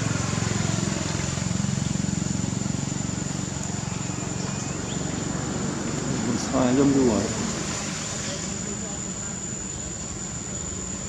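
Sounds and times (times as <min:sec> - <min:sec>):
low pulsing engine-like hum: 0:00.0 - 0:11.0.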